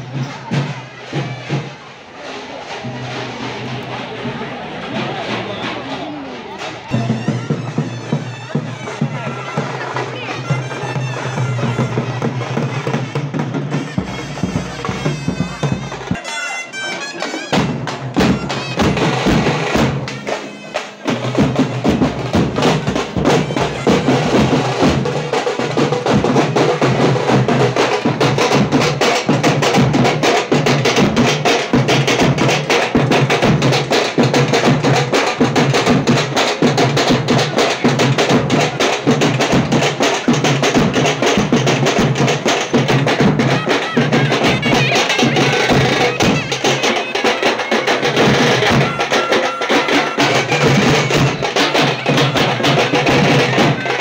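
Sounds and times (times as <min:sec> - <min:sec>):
folk drummers playing fast beat: 0:00.0 - 0:54.0.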